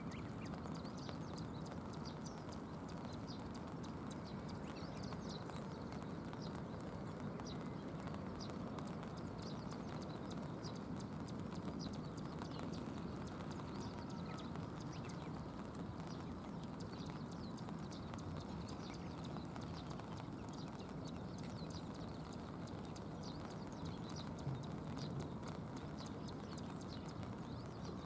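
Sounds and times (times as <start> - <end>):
flowing river water: 0.0 - 28.0
rain: 0.0 - 28.0.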